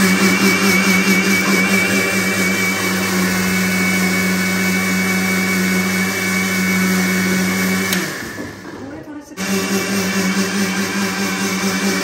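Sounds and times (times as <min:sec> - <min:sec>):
mixer grinder motor whining: 0:00.0 - 0:12.0.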